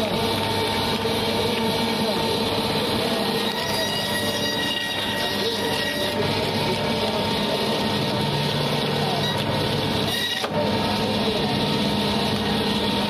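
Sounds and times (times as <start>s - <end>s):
band saw cutting fish: 0.0s - 13.0s.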